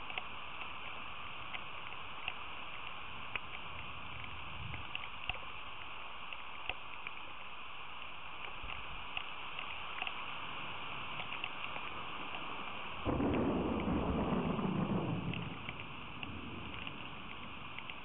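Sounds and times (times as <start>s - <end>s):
deep rushing rain: 0.0s - 18.0s
rain hissing: 0.0s - 18.0s
raindrops ticking nearby: 0.0s - 18.0s.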